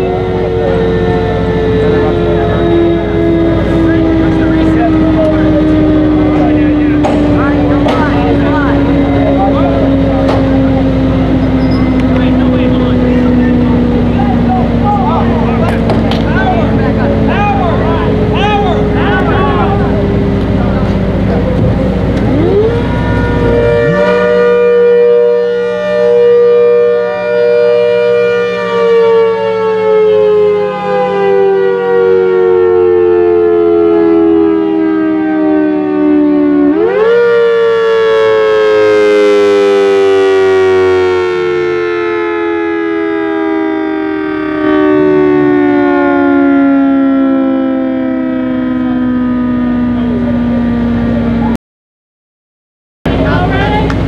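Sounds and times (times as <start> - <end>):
siren two-note wail: 0.0 - 51.6.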